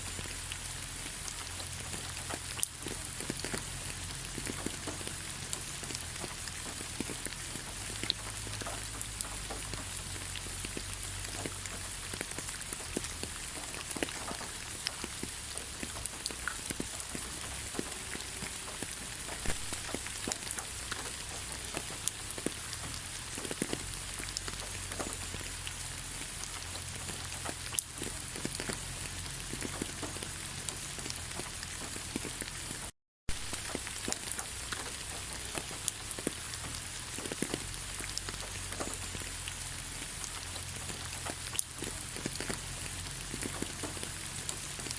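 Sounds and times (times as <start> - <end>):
light rain hissing: 0.0 - 44.9
raindrops ticking: 0.0 - 44.9.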